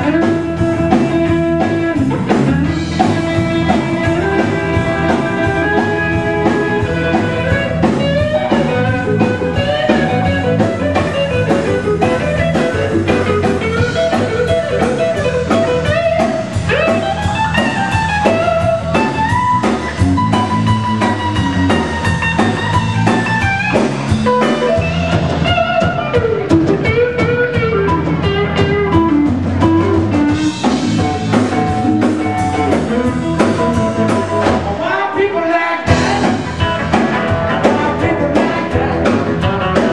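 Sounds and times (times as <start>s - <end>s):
bass: 0.0s - 39.9s
drums: 0.0s - 39.9s
electric guitar lead: 0.0s - 39.9s.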